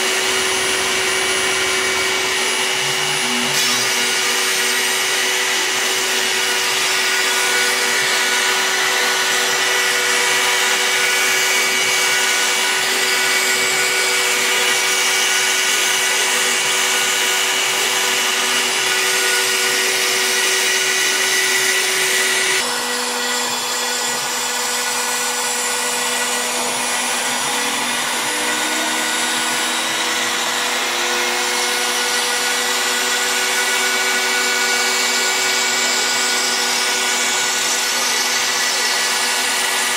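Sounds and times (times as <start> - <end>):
router spindle whine cutting wood: 0.0 - 39.9.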